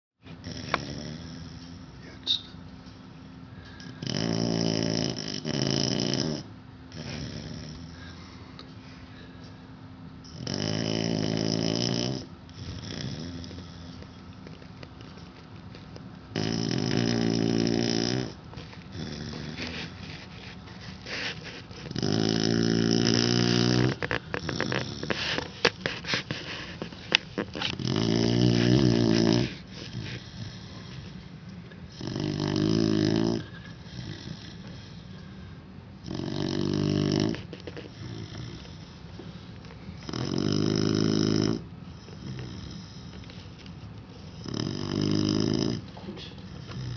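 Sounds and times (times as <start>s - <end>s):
pet snoring: 0.3s - 2.4s, 3.7s - 8.4s, 10.2s - 46.9s.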